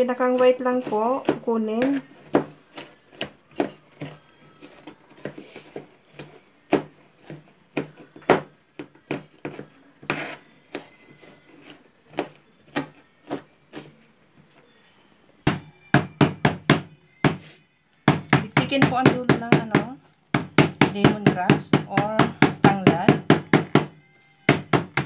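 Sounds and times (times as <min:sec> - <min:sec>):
knife chopping on plastic board: 0:00.4 - 0:13.9, 0:15.5 - 0:17.4, 0:18.1 - 0:23.9, 0:24.5 - 0:25.0.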